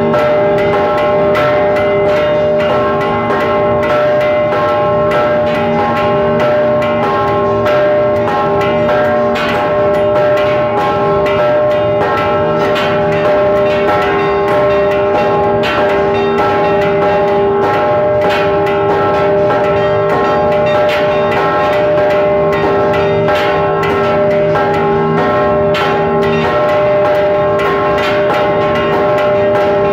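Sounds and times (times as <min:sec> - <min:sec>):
church bells ringing rapidly: 0:00.0 - 0:29.9.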